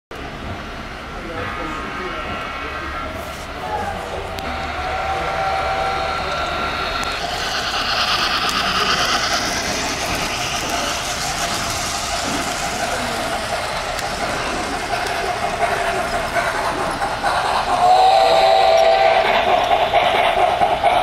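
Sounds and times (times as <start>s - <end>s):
model trains whirring on track: 0.2s - 21.0s
hissing rush: 1.0s - 21.0s.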